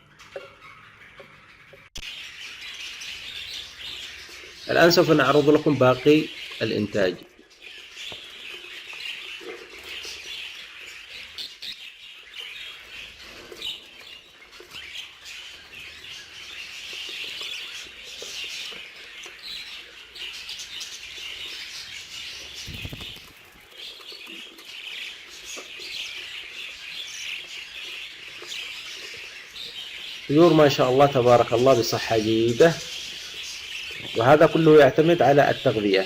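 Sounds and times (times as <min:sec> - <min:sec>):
budgerigars chirping and chattering: 0:00.0 - 0:36.0.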